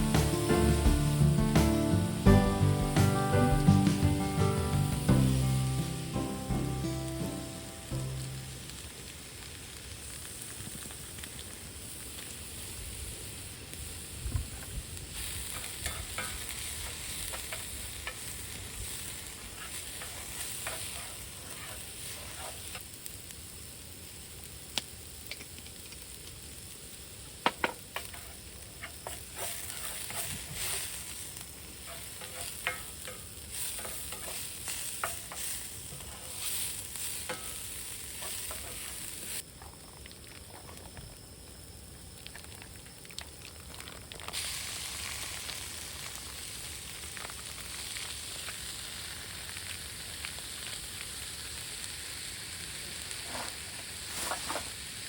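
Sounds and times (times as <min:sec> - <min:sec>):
food sizzling: 0:00.0 - 0:55.0.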